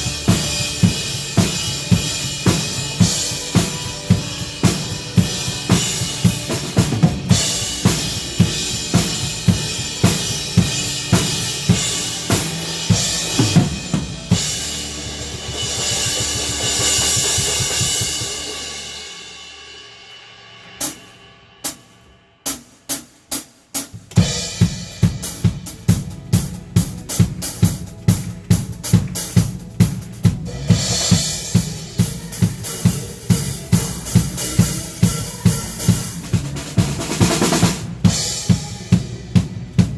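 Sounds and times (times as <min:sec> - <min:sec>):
drum kit groove: 0:00.0 - 0:39.9.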